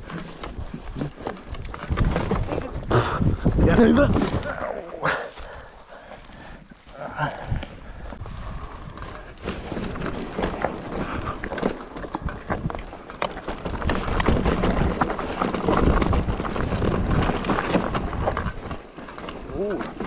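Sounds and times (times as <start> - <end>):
mountain bike rattling over rocks: 0.0 - 5.9, 7.1 - 20.0.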